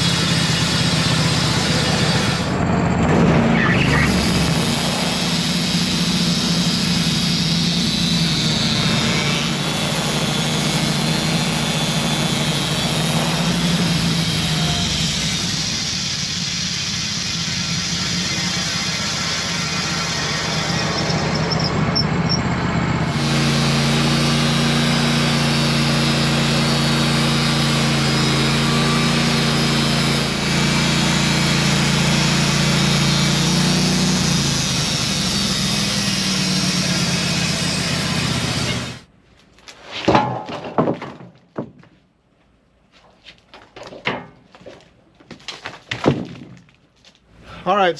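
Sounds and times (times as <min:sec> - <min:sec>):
bandsaw sawmill engine running: 0:00.0 - 0:39.1.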